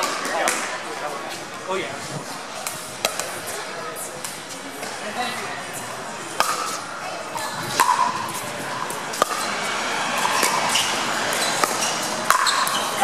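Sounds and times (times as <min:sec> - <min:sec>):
murmur of spectators: 0:00.0 - 0:13.0.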